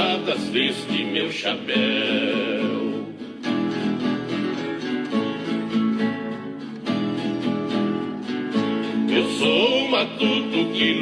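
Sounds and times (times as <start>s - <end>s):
acoustic guitars picking a melody: 0.0s - 11.0s
strummed guitar accompaniment: 0.0s - 11.0s.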